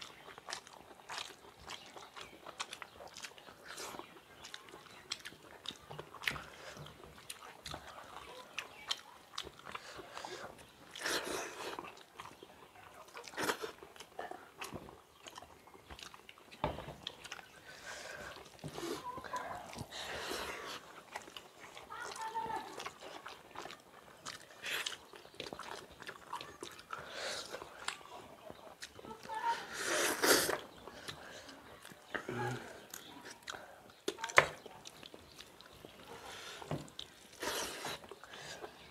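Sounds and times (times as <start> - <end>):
fingers squishing rice on plates: 0.0 - 38.9
wet chewing and lip smacking: 0.0 - 38.9.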